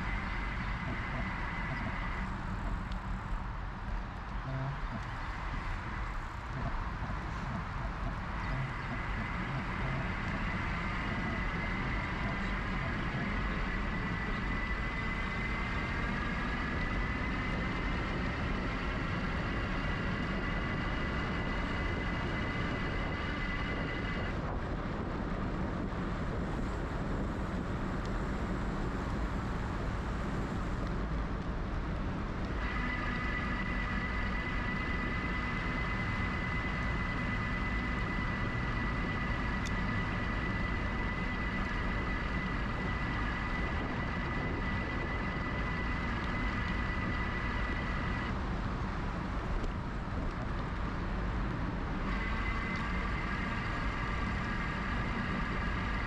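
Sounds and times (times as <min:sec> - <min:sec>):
electric bike motor whining: 0:00.0 - 0:03.4, 0:04.4 - 0:50.9, 0:51.9 - 0:56.0
wind noise on microphone: 0:00.0 - 0:56.0.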